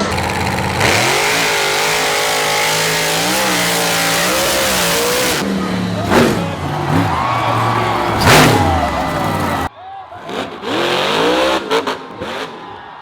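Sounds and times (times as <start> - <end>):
truck engine revving: 0.0 - 9.7, 10.3 - 12.7.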